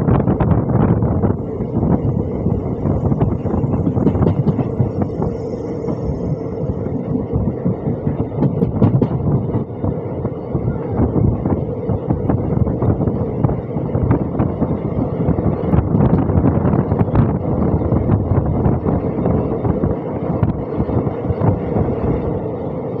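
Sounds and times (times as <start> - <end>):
train wheels rumbling on rails: 0.0 - 23.0
wind buffeting microphone: 0.0 - 23.0.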